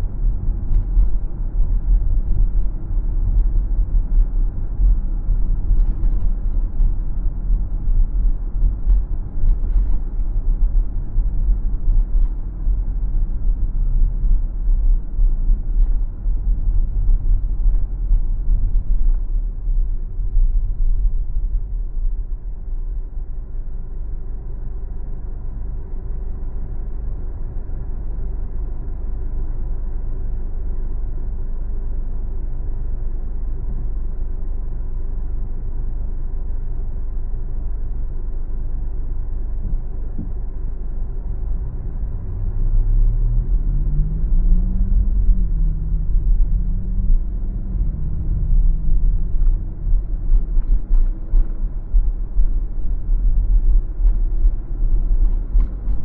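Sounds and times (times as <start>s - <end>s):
car road and tyre rumble: 0.0s - 56.0s.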